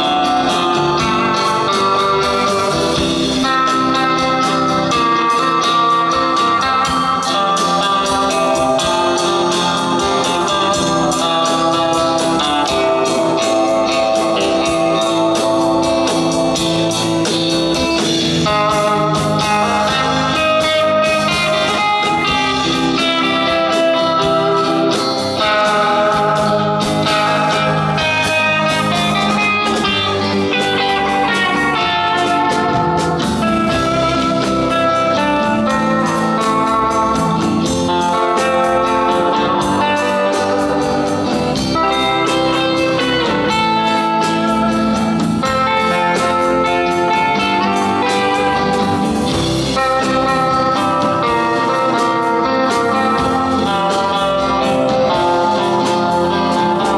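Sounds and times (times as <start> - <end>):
electric guitar playing: 0.0 - 56.9
live blues band music: 0.0 - 56.9.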